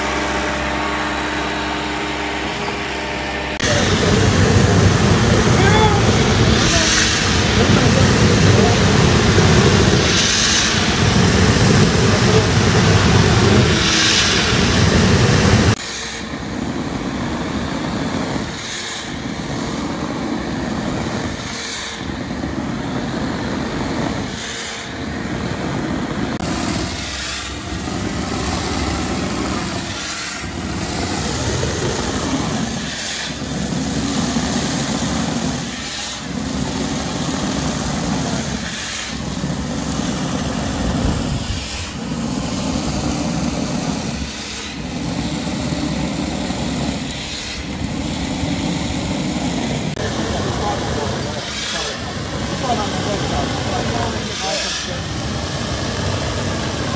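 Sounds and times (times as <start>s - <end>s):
concrete spraying machine rushing: 0.0s - 56.9s.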